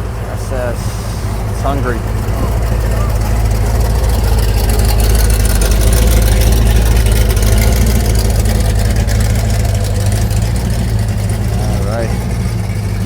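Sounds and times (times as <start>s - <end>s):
engine exhaust rumble: 0.0s - 13.0s.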